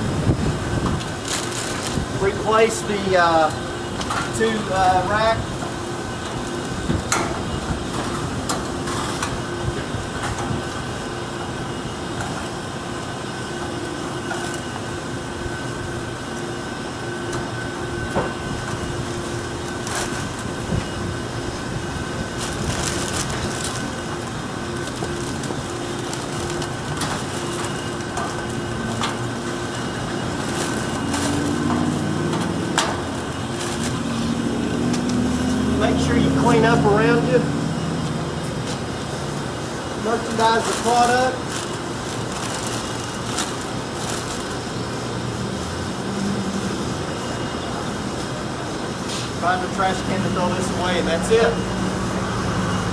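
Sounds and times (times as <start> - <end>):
steady mechanical hum: 0.0 - 52.9.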